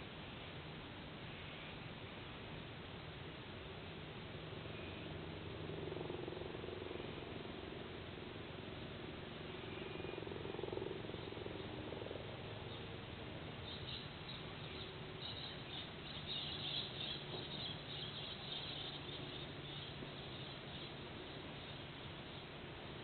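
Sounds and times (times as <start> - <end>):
microphone hiss: 0.0 - 23.0.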